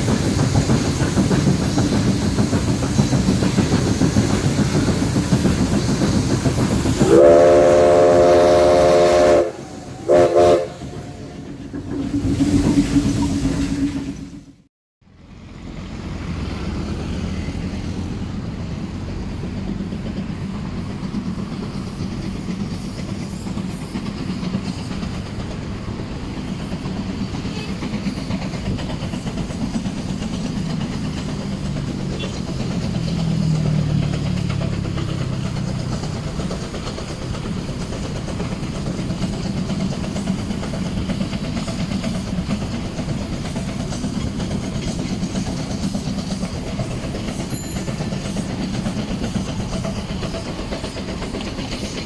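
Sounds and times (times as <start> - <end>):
steam train rumbling: 0.0 - 52.0.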